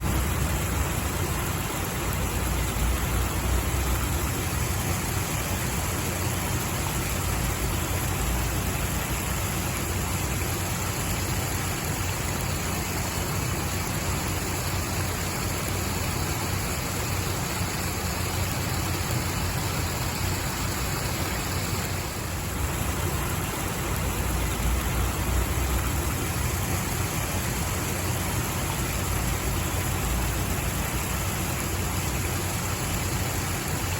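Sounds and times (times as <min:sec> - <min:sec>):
rushing water with low rumble: 0:00.0 - 0:33.9.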